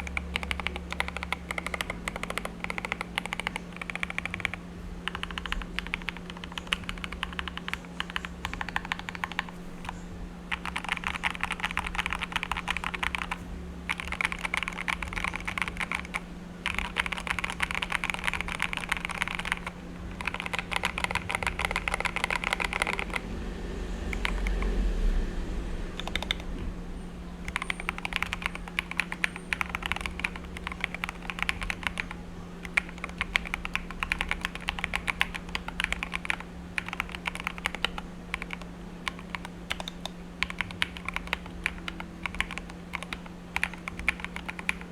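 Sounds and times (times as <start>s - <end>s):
fast typing on mechanical keyboard: 0.0s - 23.4s, 24.1s - 24.8s, 26.0s - 26.5s, 27.5s - 44.9s.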